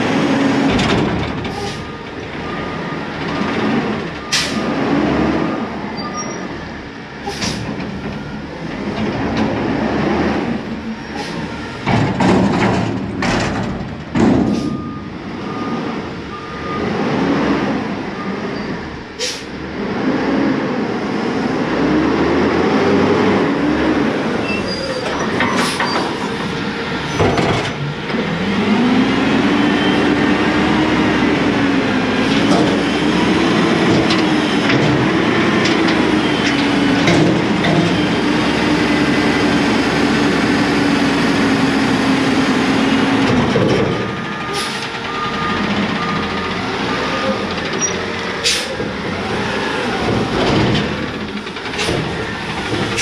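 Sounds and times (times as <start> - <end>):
garbage truck diesel engine droning: 0.0 - 53.0.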